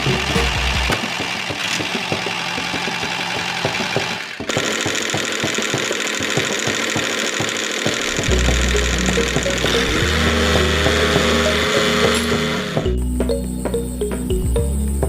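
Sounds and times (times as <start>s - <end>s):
small tractor engine knocking: 0.0s - 13.8s.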